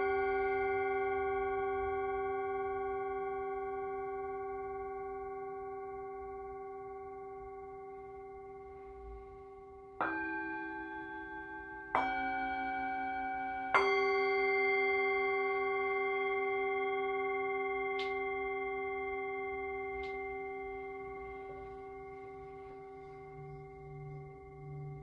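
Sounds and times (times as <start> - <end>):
low wavering tone: 0.0 - 25.0
singing bowl ringing: 0.0 - 25.0.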